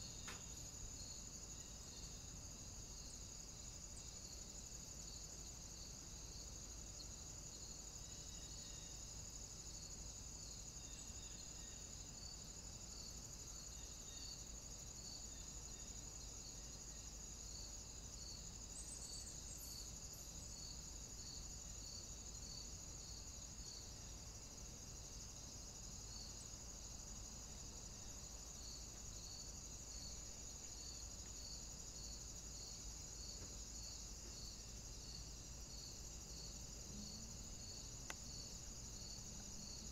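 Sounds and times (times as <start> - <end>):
insect chirping: 0.0 - 39.9
low background hiss: 0.0 - 39.9.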